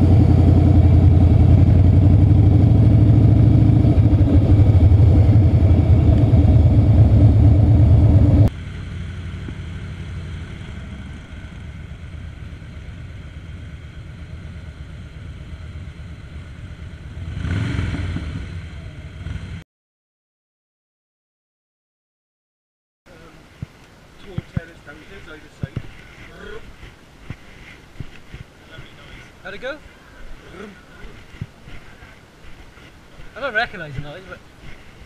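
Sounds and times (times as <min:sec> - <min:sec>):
motorcycle engines rumbling: 0:00.0 - 0:19.6, 0:23.1 - 0:35.0.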